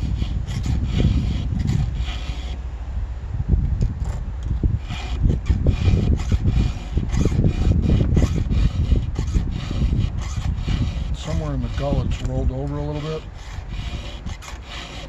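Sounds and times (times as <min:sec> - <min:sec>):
file rasping on chainsaw chain: 0:00.0 - 0:02.6, 0:04.8 - 0:15.0.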